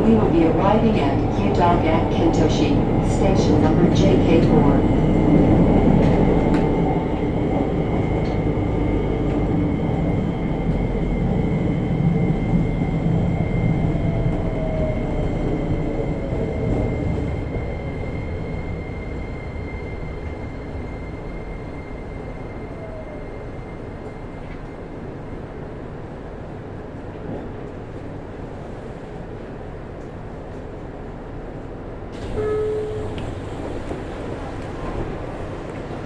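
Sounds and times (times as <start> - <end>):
train wheels and motors rumbling: 0.0 - 36.0.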